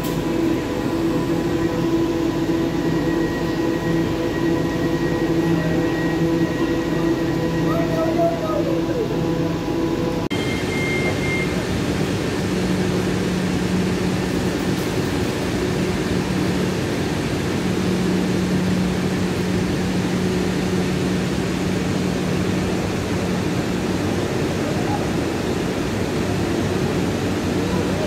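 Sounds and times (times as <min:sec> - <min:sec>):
electric train low hum: 0:00.0 - 0:28.0.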